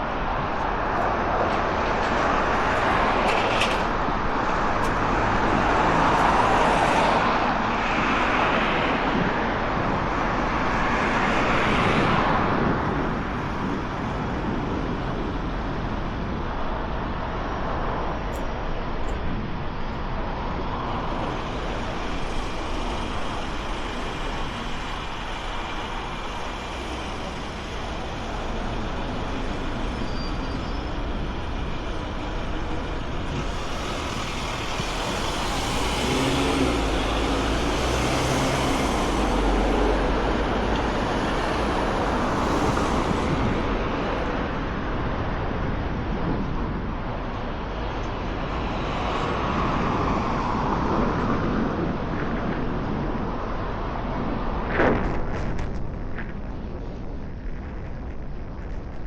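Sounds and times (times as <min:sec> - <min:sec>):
busy street traffic: 0:00.0 - 0:59.0.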